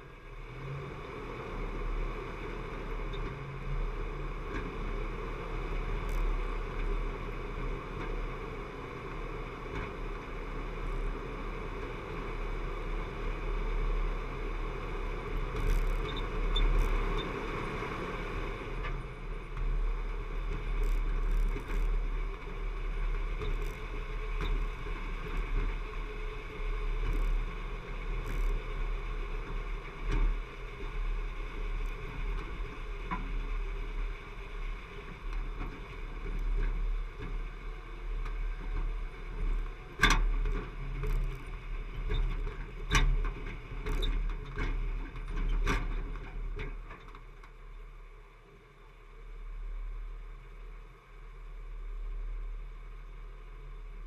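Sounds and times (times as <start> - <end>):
vehicle rumbling on gravel: 0.0 - 54.0.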